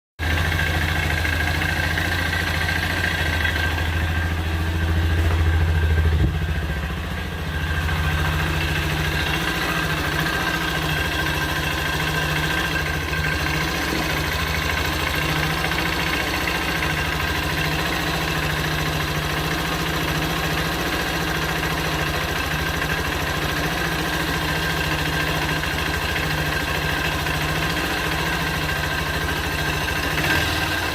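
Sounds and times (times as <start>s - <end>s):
motorcycle engine idling: 0.2s - 30.9s.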